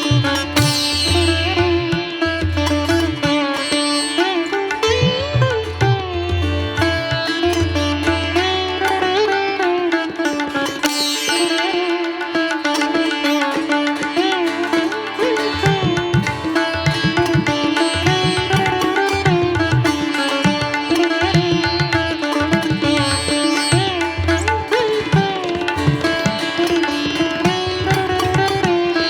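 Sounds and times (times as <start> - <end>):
plucked string melody: 0.0 - 29.0.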